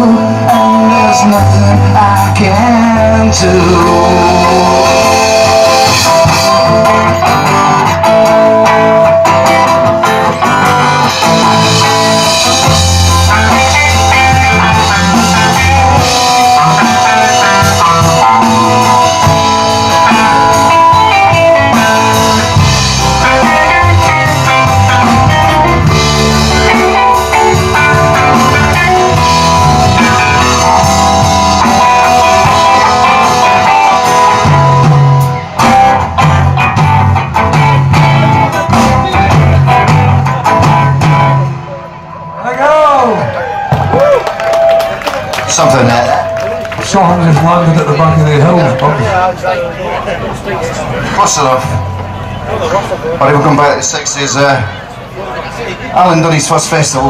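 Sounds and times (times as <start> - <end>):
drum kit: 0.0 - 49.1
electric guitar: 0.0 - 57.0.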